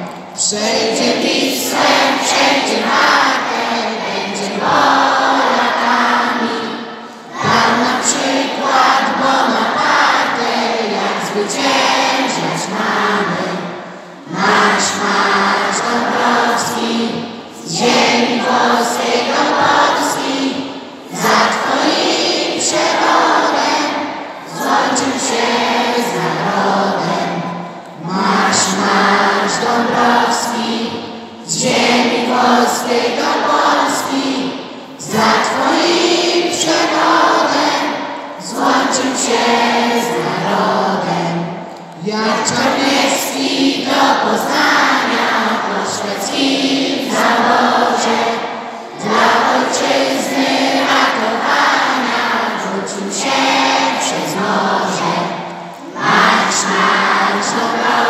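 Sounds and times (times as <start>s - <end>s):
choir singing slow song: 0.0s - 58.0s.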